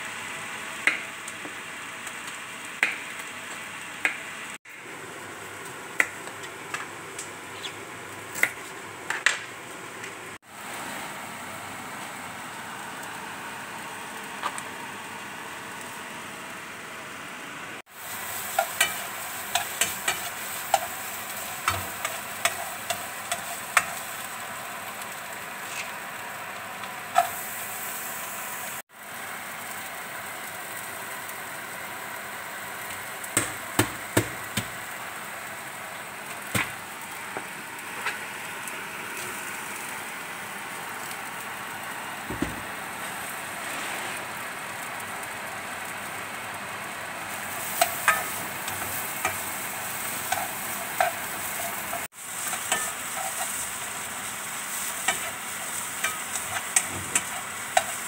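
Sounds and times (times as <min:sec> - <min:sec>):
food sizzling in oil: 0:00.0 - 0:09.0, 0:09.6 - 0:58.0.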